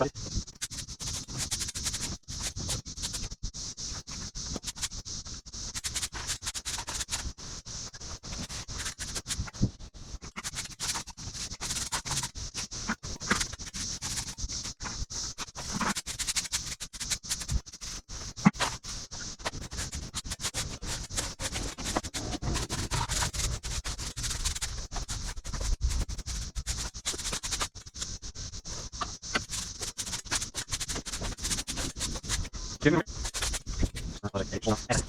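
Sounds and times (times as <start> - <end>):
broom sweeping sand on bricks: 0.0 - 35.0.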